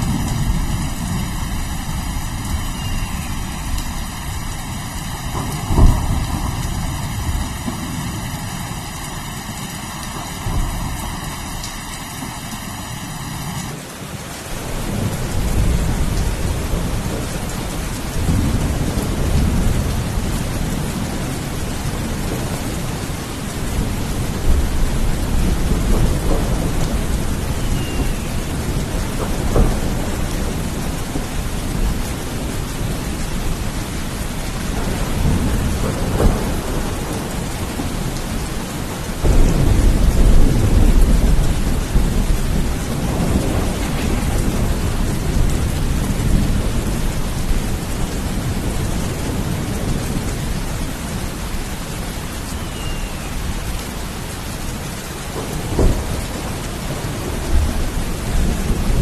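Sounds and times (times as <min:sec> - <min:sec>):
thunder rumbling: 0:00.0 - 0:13.8, 0:14.6 - 0:59.0
heavy rain: 0:00.0 - 0:59.0.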